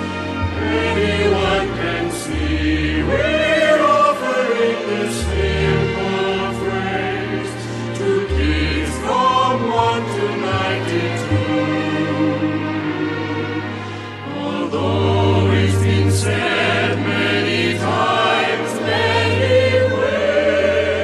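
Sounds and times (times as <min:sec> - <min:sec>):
choir singing held notes: 0:00.0 - 0:21.0.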